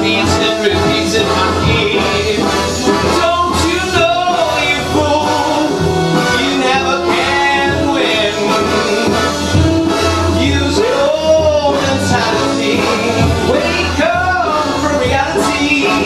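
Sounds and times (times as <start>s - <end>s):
instrumental accompaniment with bass: 0.0s - 16.0s
man singing into a microphone: 0.0s - 16.0s.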